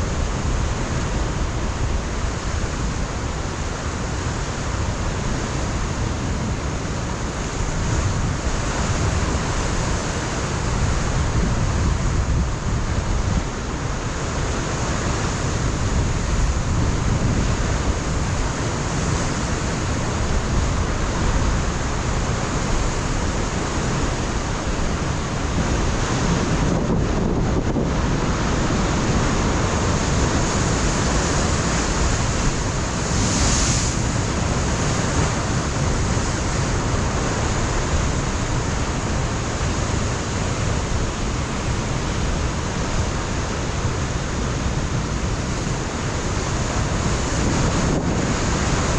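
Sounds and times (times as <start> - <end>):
ocean waves breaking on rocks: 0.0 - 48.9
wind buffeting microphone: 0.0 - 48.9.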